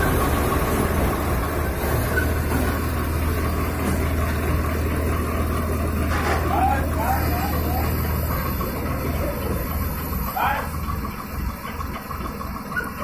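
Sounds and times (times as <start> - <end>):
tractor diesel engines droning: 0.0 - 13.0.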